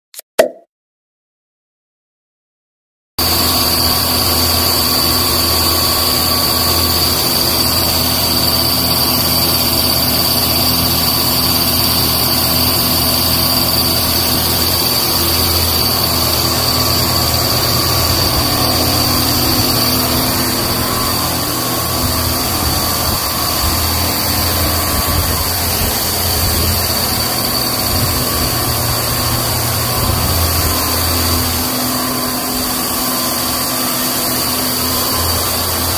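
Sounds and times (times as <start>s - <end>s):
fogging machine humming and whining: 3.2s - 35.9s.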